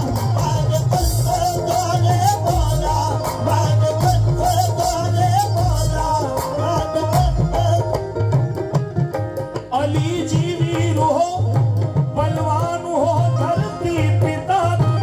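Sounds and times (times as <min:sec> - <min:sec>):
man singing into microphone: 0:00.0 - 0:08.6, 0:09.6 - 0:15.0
hand drums beat: 0:00.0 - 0:15.0.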